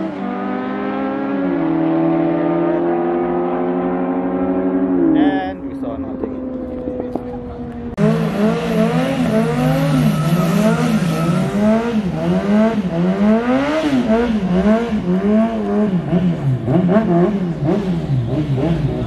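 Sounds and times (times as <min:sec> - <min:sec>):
car engine revving hard: 0:00.0 - 0:05.5, 0:08.0 - 0:19.0.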